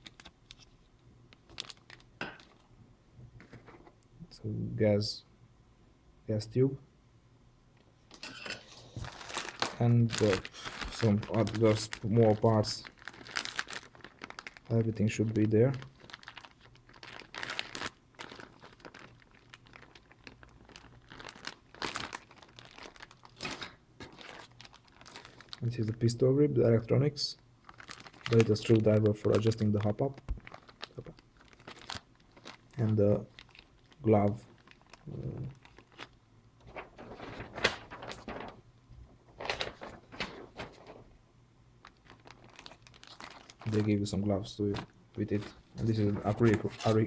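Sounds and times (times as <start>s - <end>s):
packaging crinkling and rustling: 0.0s - 2.7s, 8.1s - 26.0s, 27.6s - 41.2s, 41.8s - 47.0s.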